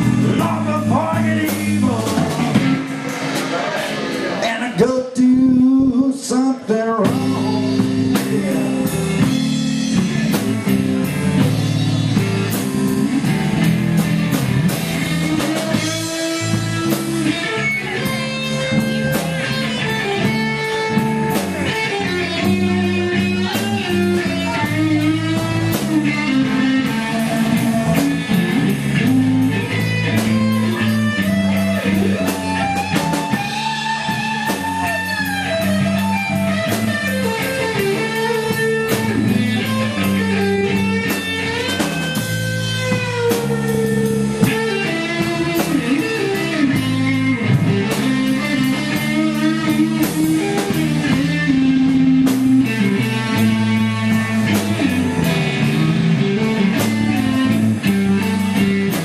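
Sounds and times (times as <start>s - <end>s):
bass guitar: 0.0s - 59.0s
drum kit beat: 0.0s - 59.0s
guitar: 0.0s - 59.0s.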